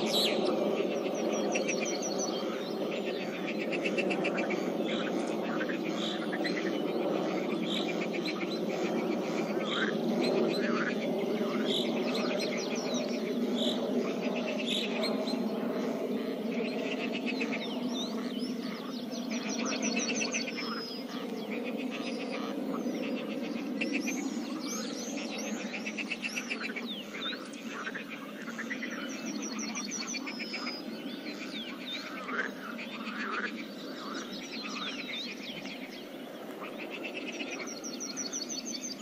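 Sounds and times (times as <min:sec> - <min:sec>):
birds chirping and trilling: 0:00.0 - 0:39.0
frogs calling: 0:00.0 - 0:39.0.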